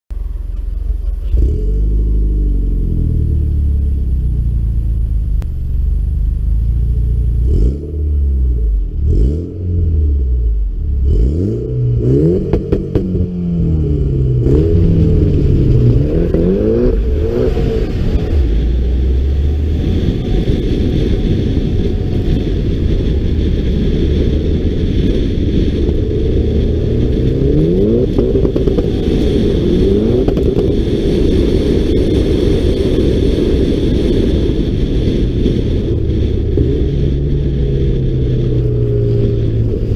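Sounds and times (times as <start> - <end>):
car engine revving: 0.2 - 39.9.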